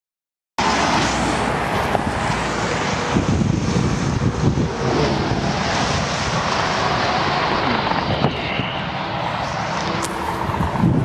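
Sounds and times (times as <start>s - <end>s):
highway traffic rushing: 0.6s - 11.0s
wind buffeting microphone: 1.4s - 11.0s.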